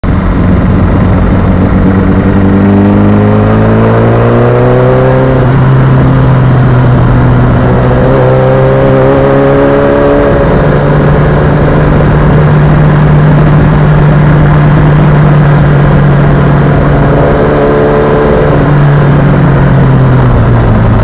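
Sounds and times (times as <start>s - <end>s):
motorcycle engine revving through gears: 0.0s - 21.0s
wind rush on microphone: 0.0s - 21.0s.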